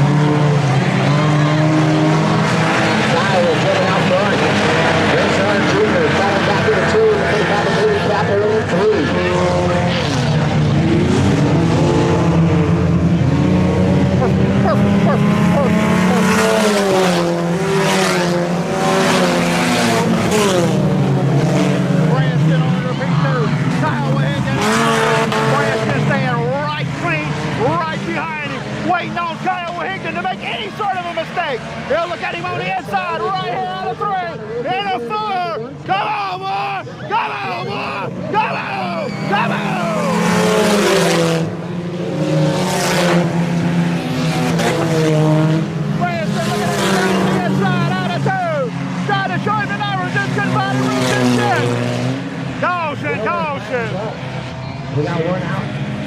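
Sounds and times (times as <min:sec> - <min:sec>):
race car engines running hard: 0:00.0 - 0:56.0.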